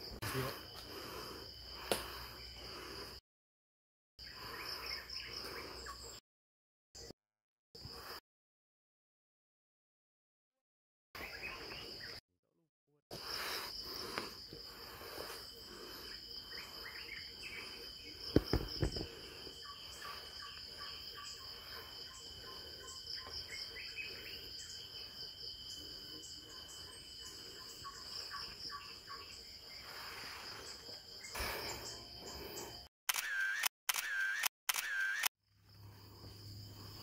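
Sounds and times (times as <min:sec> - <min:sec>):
insects trilling: 0:00.0 - 0:03.2, 0:04.2 - 0:06.2, 0:11.2 - 0:12.2, 0:13.1 - 0:37.0.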